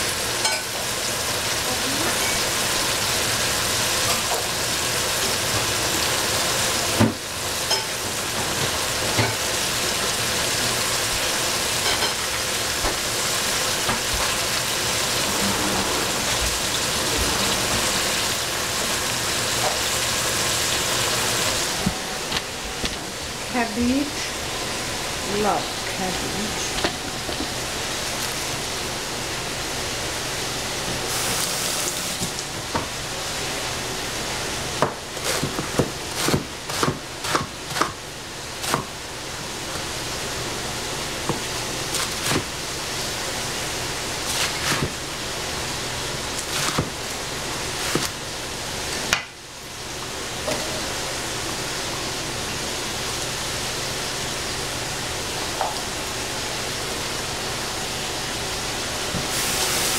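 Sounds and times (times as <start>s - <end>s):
vegetables sizzling in a frying pan: 0.0s - 15.4s, 16.2s - 59.9s.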